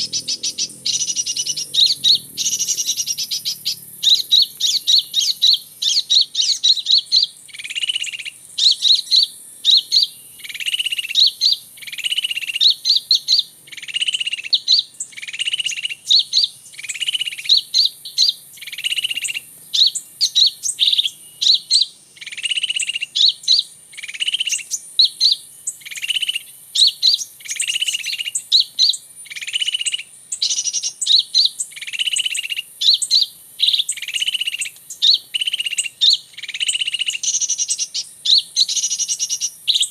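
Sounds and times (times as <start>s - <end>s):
bird calls high chips and buzzy note: 0.0s - 39.9s.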